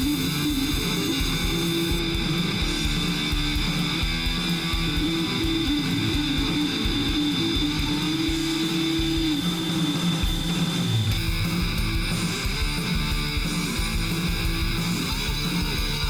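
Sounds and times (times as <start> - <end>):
rock music with electric guitar: 0.0 - 16.0
steady high whine: 0.0 - 16.0.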